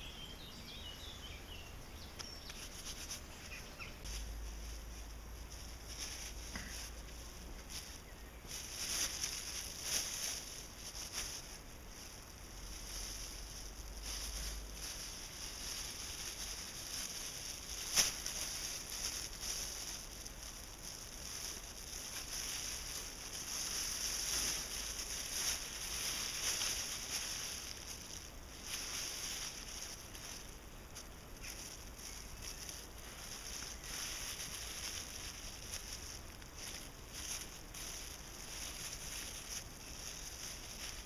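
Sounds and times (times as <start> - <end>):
plastic bag rustling and crinkling: 2.1 - 41.0.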